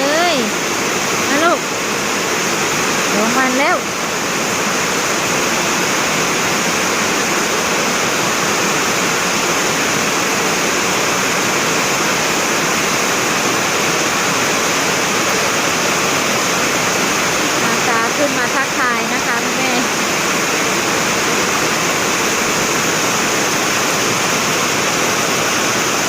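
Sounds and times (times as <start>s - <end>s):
heavy rain in wind: 0.0s - 26.0s.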